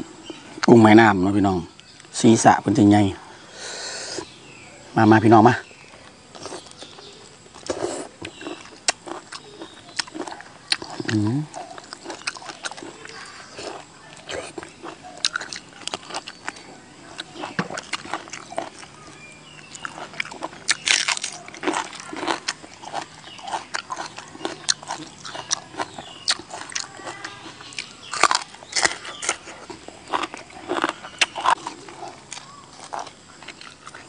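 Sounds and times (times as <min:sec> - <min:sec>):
biting and chewing crunches: 0:06.0 - 0:34.0.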